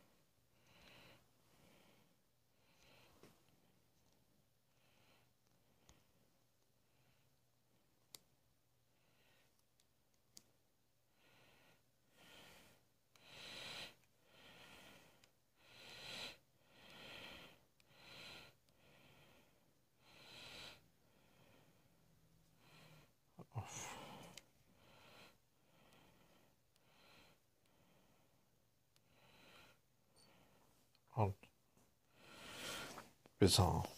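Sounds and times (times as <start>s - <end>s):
faint breathing: 0.0s - 4.1s, 4.7s - 7.4s, 11.1s - 33.9s.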